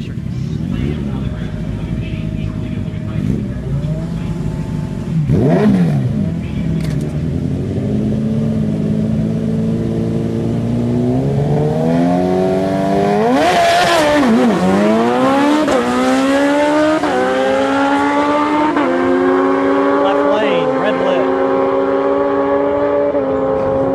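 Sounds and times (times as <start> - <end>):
motorcycle engine revving and upshifting: 0.0 - 23.9.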